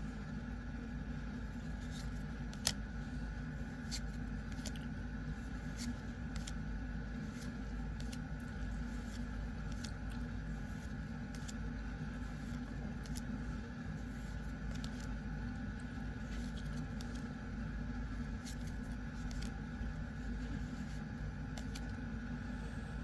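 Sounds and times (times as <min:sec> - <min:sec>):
background hum: 0:00.0 - 0:23.0
cards clicking and snapping: 0:01.5 - 0:22.0.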